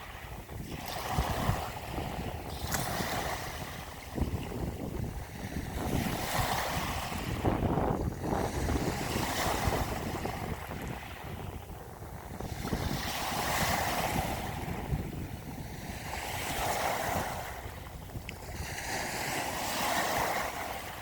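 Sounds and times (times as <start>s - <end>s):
ocean waves washing: 0.0s - 21.0s
wind rumbling on microphone: 0.0s - 21.0s.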